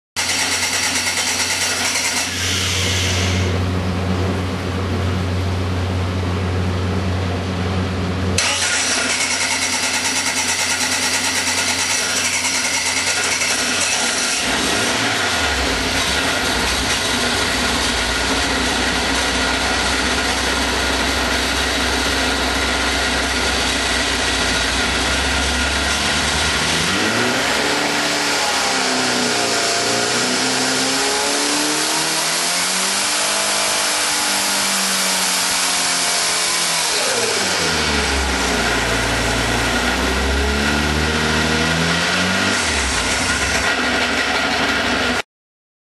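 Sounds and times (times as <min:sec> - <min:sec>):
engine running and revving: 0:00.2 - 0:05.0, 0:08.4 - 0:45.2.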